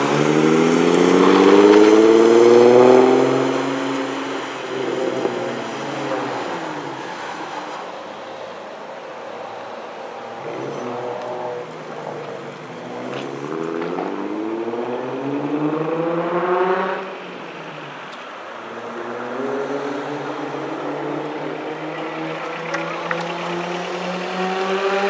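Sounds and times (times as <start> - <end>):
car engine accelerating: 0.0 - 8.6, 10.3 - 25.0.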